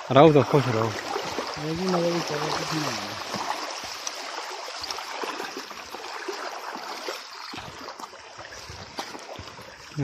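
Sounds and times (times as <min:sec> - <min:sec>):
water splashing around wading legs: 0:00.0 - 0:10.0.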